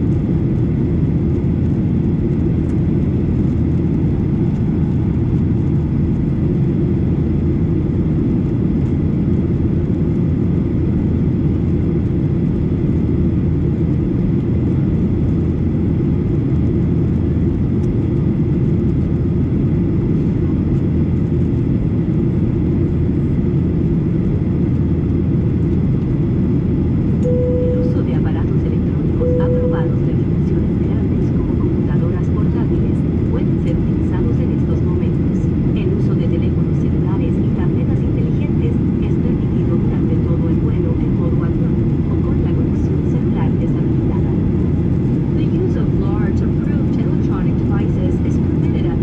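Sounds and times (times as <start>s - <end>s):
jet engines rumbling in flight: 0.0s - 49.0s.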